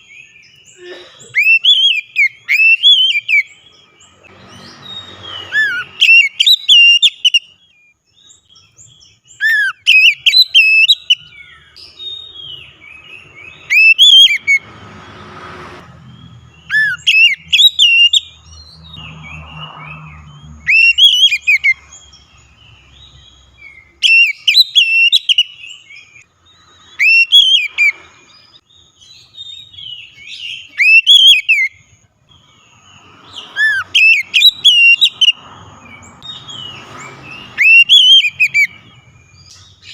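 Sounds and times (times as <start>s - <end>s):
bird singing whistles and chirps: 1.4s - 14.7s, 16.0s - 39.9s.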